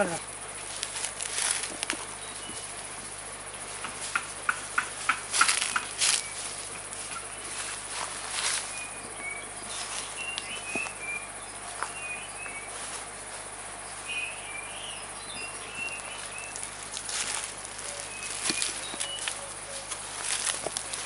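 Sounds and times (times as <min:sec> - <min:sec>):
dry leaves crackling: 0:00.0 - 0:21.0
insect hiss: 0:00.0 - 0:21.0.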